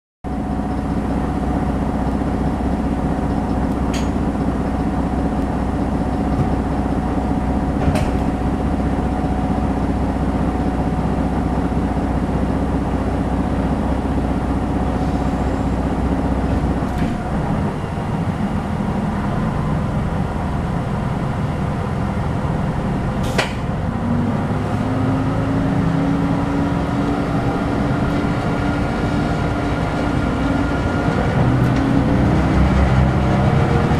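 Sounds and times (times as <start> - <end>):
railcar diesel engine humming: 0.2 - 33.9.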